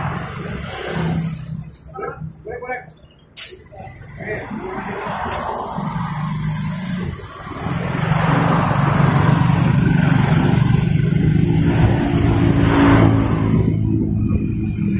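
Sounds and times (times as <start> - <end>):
vehicle engine revving: 0.0 - 2.6, 3.9 - 14.9.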